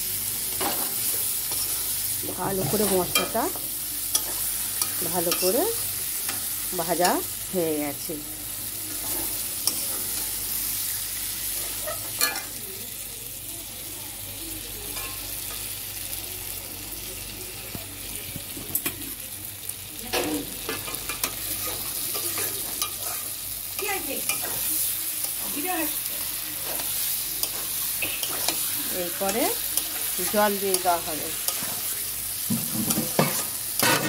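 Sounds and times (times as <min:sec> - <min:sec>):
vegetables sizzling in a pan: 0:00.0 - 0:34.0.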